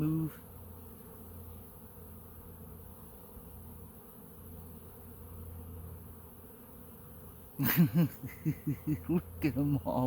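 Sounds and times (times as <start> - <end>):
honeybees buzzing: 0.0 - 10.0.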